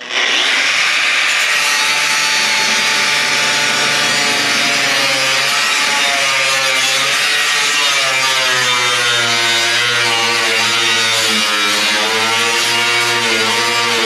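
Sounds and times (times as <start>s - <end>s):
cut-off wheel grinding sheet metal: 0.0s - 14.0s.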